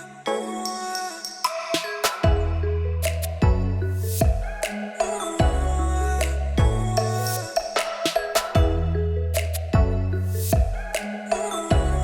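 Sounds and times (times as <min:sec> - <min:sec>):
electronic music with deep bass: 0:02.1 - 0:12.0.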